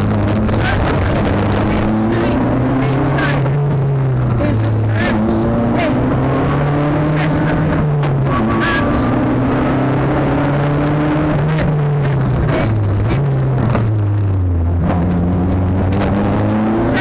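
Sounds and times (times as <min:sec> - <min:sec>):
rally car engine running hard: 0:00.0 - 0:17.0.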